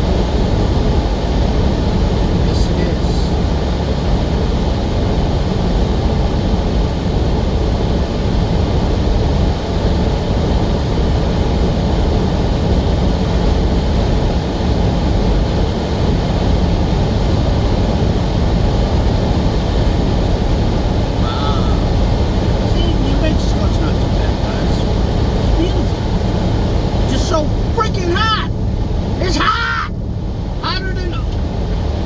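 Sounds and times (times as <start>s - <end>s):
road noise: 0.0s - 32.0s
truck engine rumble: 0.0s - 32.0s.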